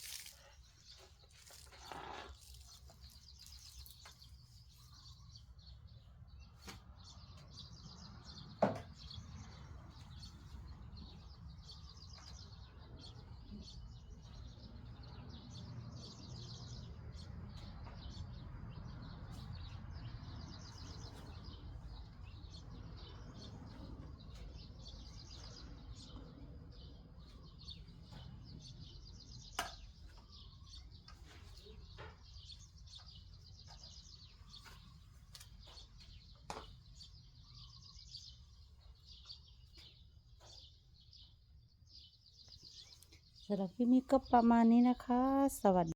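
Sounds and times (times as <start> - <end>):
birds chirping in trills: 0.0 - 45.9.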